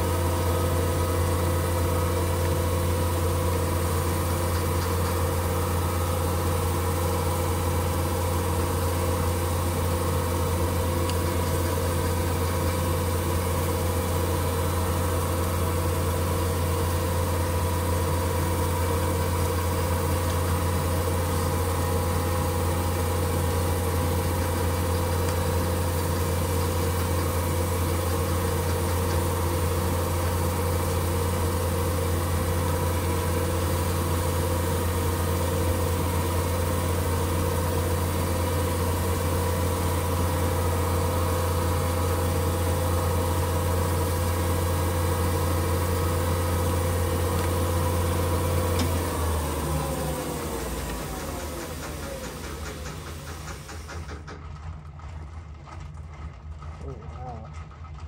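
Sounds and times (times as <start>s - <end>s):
lathe motor humming: 0.0s - 54.2s.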